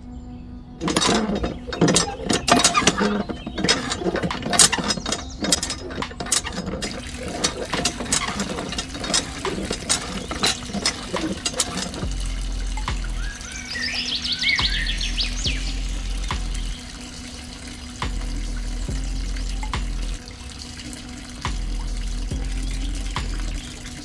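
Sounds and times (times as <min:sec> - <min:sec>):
water trickling: 0:00.0 - 0:24.0
hand pump clicking and rattling: 0:00.8 - 0:24.0.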